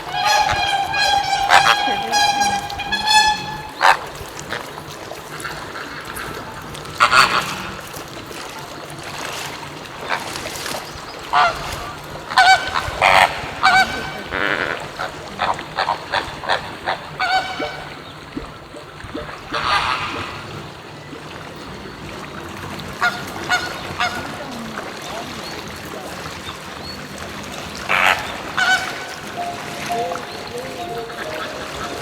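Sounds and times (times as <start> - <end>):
flamingos honking: 0.0 - 8.4, 10.0 - 18.8, 19.5 - 20.7, 22.8 - 32.0.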